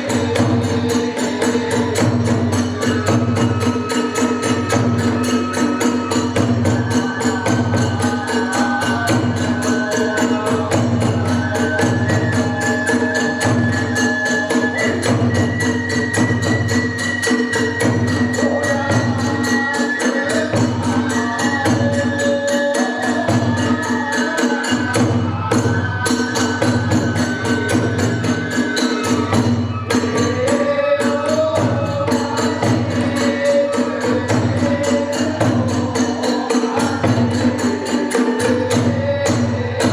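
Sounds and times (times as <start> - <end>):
taiko drum beating: 0.0 - 19.4, 24.7 - 30.5, 31.4 - 39.9
bamboo flute melody: 0.0 - 35.6.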